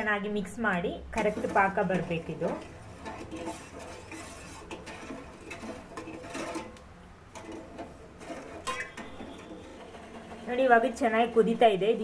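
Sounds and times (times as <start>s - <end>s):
spoon scraping metal pot: 0.7s - 11.7s.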